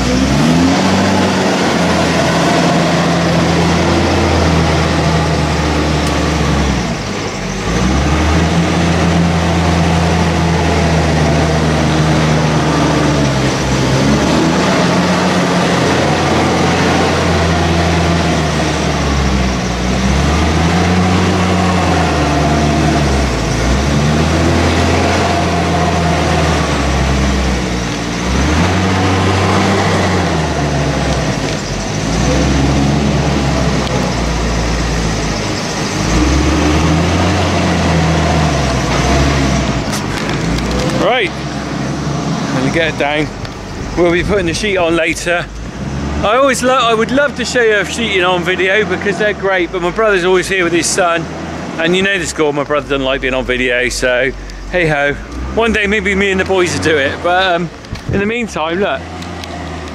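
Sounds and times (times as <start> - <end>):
loader diesel engine working: 0.0 - 59.9.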